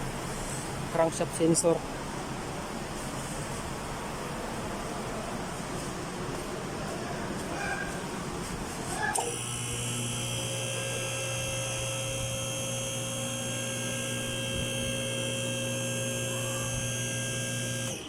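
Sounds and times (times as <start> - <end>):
electrical hum with high whine: 0.0 - 18.0.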